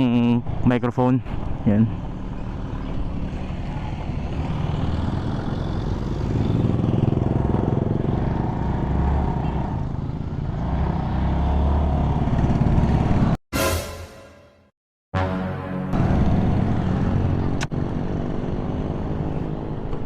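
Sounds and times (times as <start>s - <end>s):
road noise: 0.0s - 14.3s, 15.2s - 20.0s.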